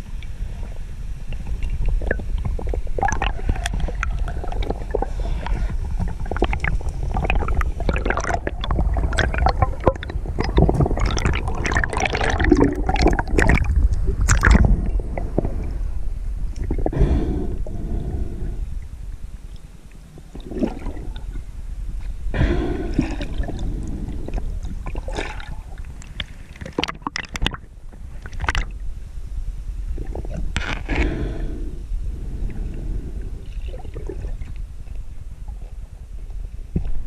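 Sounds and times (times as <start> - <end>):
underwater gurgling: 0.0 - 19.0, 20.1 - 28.8, 29.8 - 35.8
underwater water rumble: 0.0 - 37.0.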